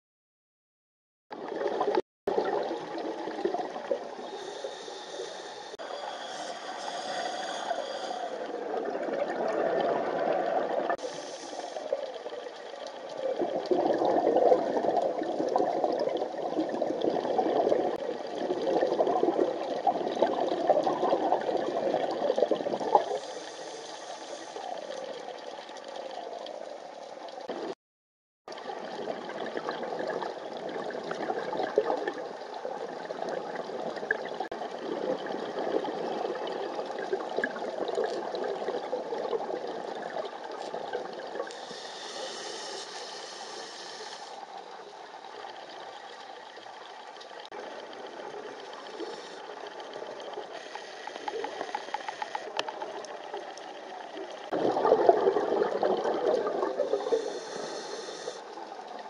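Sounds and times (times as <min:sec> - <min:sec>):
scuba regulator bubbles underwater: 0:01.3 - 0:27.8, 0:28.5 - 0:59.0.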